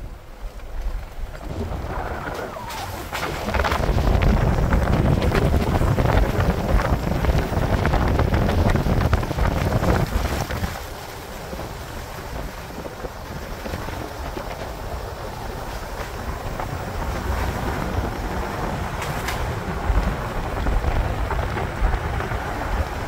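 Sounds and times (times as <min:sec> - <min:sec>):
tyre and road noise: 0:00.0 - 0:23.0
wind buffeting microphone: 0:00.0 - 0:23.0.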